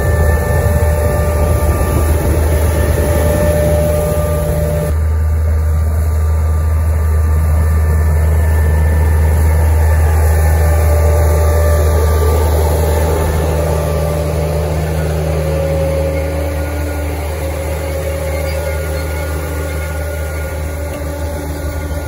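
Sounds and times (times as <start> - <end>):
tractor engine droning: 0.0 - 22.0.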